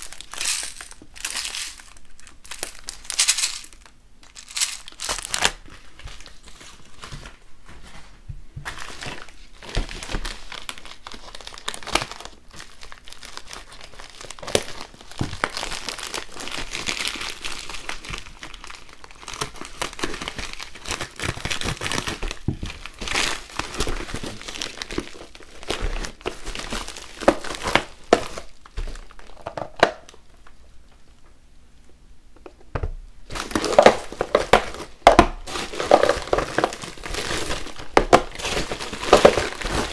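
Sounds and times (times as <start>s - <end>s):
plastic mailer bag crinkling: 0.0s - 8.0s, 8.6s - 30.5s, 33.2s - 39.9s.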